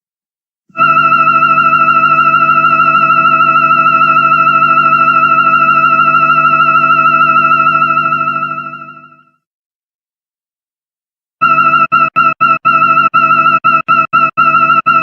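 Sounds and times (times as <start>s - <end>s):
warbling electronic robot tone: 0.8s - 9.3s, 11.4s - 15.0s.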